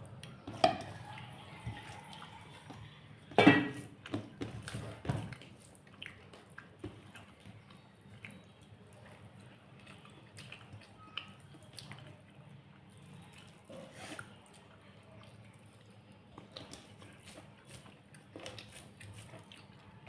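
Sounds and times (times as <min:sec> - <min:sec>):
person chewing food: 0:03.8 - 0:20.0.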